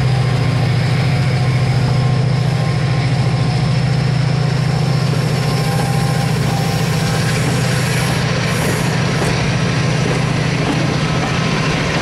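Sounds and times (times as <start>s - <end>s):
coaches rolling on rails: 0.0s - 12.0s
diesel locomotive engine drone: 0.0s - 12.0s.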